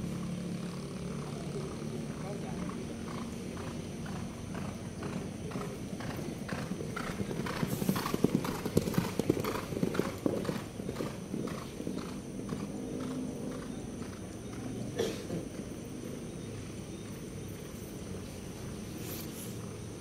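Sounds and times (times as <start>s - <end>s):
horses galloping on dirt: 0.0s - 20.0s.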